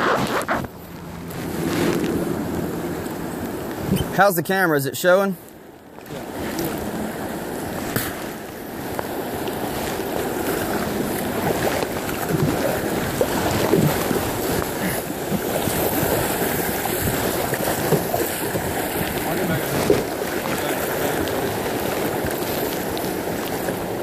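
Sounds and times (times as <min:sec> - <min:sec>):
paddle splashes: 0:00.0 - 0:24.0
river water rushing: 0:00.0 - 0:24.0.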